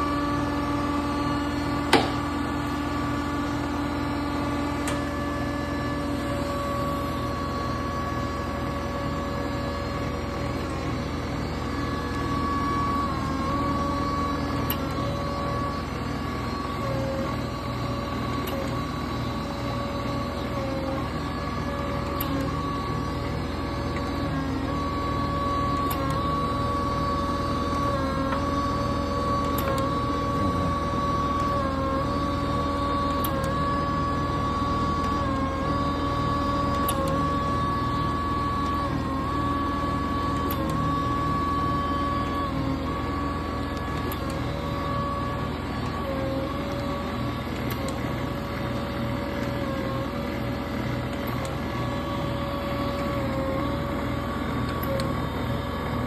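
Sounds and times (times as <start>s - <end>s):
grinder motor hum and whine: 0.0s - 56.0s.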